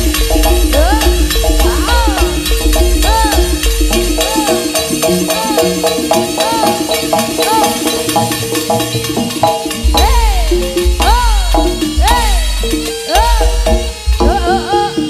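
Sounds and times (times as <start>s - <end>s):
deep drum beats: 0.0s - 15.0s
drumming: 0.0s - 15.0s
metallophone melody: 0.0s - 15.0s
swooping repeated note: 0.0s - 15.0s.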